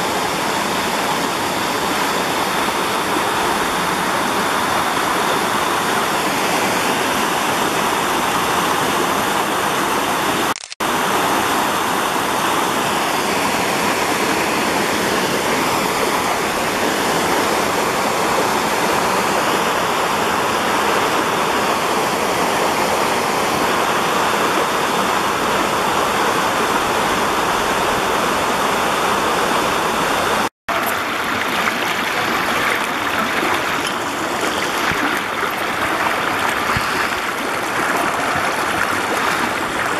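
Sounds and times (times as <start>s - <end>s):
brook water rushing over rocks: 0.0s - 39.9s.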